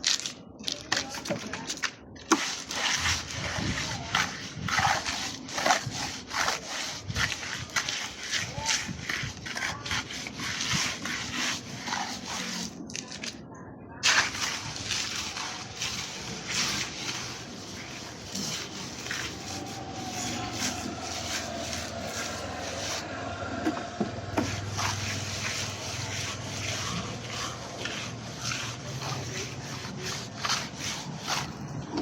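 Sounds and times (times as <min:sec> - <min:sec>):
scraping strokes: 0:01.0 - 0:13.4, 0:14.0 - 0:32.0.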